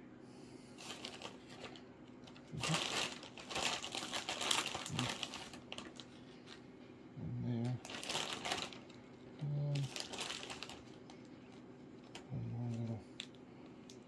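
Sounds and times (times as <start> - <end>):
plastic bag crinkling: 0.8 - 6.6, 7.6 - 14.0.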